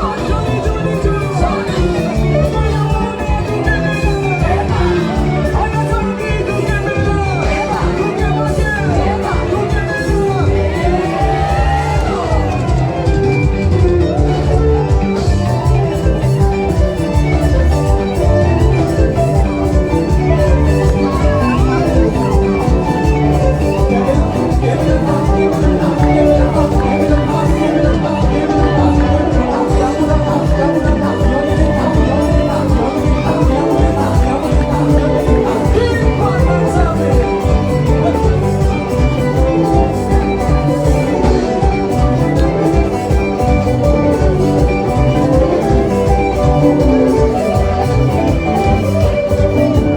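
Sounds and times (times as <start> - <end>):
live band music: 0.0 - 49.9
pulsing bass line: 0.0 - 49.9
steady drum beat: 0.0 - 49.9.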